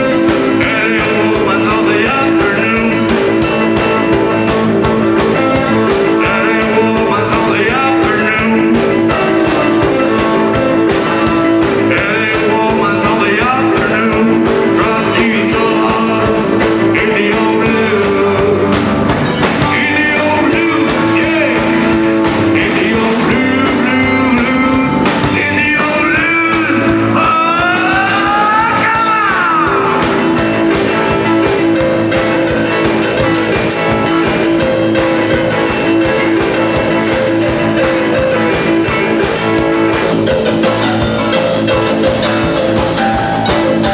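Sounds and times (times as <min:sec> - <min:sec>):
guitar: 0:00.0 - 0:43.9
person singing: 0:00.0 - 0:43.9
rock band playing live: 0:00.0 - 0:43.9.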